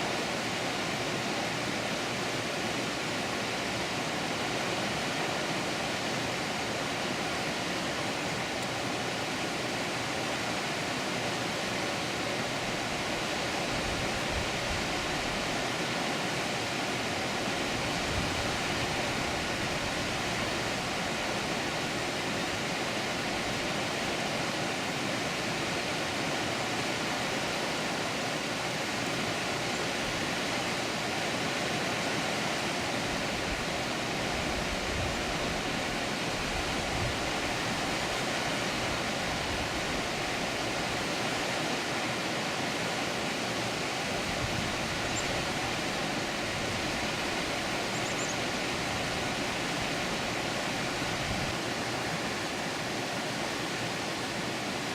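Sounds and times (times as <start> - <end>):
water rushing over a dam: 0.0 - 54.9.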